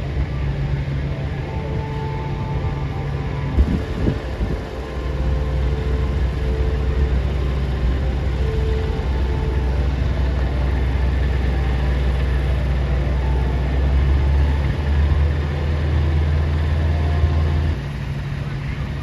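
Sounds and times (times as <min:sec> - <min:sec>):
heavy engine idling: 0:00.0 - 0:19.0.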